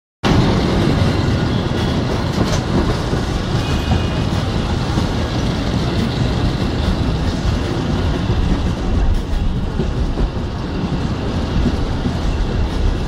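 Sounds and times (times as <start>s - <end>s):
train wheels rumbling on rail: 0.2s - 13.0s.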